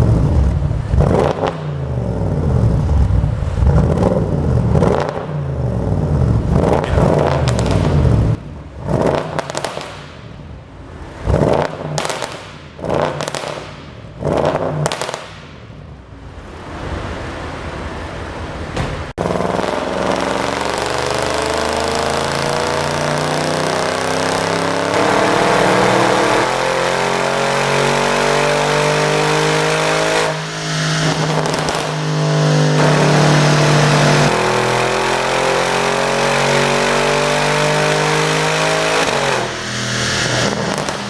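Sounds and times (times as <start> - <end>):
car engine revving hard: 0.0 - 10.0, 11.1 - 15.2, 19.1 - 41.0.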